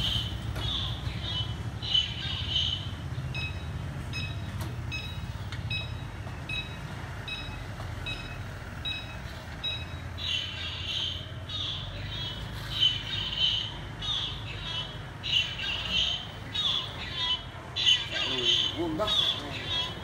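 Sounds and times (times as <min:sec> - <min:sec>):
low street rumble: 0:00.0 - 0:20.0
mobility scooter beeping: 0:00.0 - 0:20.0.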